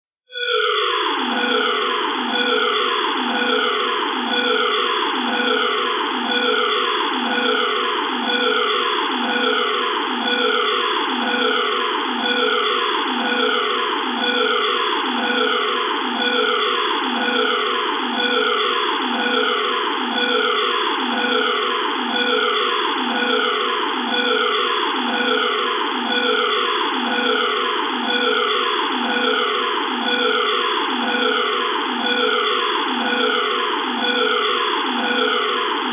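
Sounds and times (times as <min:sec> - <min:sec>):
electronic alarm sweeping tone: 0:00.3 - 0:35.9.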